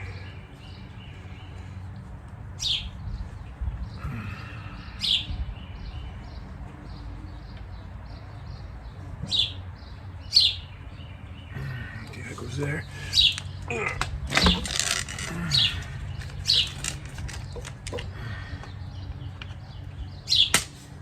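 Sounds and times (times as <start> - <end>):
bird chirping: 0.0 - 20.7.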